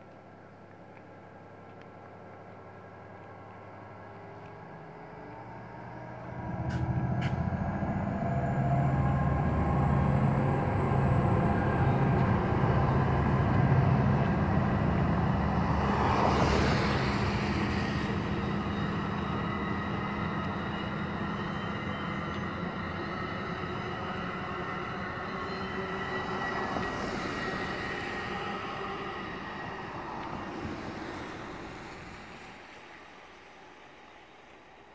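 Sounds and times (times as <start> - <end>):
diesel locomotive drone: 0.0 - 34.9
train wheel and rail rush: 0.9 - 34.9.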